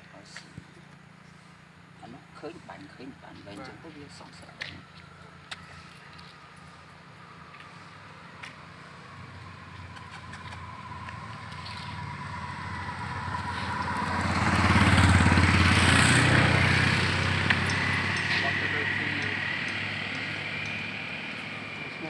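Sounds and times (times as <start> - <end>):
vehicle engine passing close: 4.2 - 22.0.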